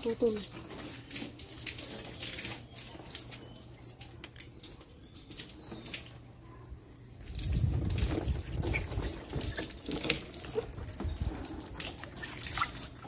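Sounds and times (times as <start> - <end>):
water gushing: 0.0 - 6.3, 7.2 - 13.0
water spattering and dripping: 0.0 - 13.0.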